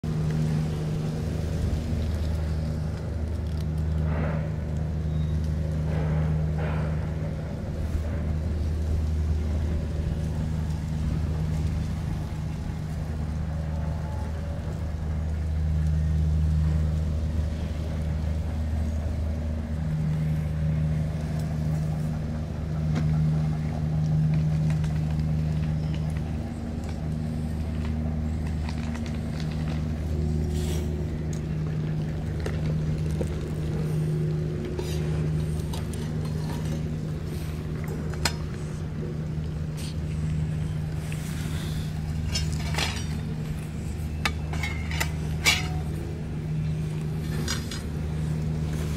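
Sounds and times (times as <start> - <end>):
engine drone: 0.0 - 48.9.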